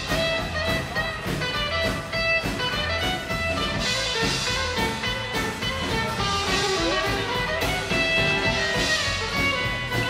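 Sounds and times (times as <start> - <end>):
rockabilly band playing live: 0.0 - 10.0.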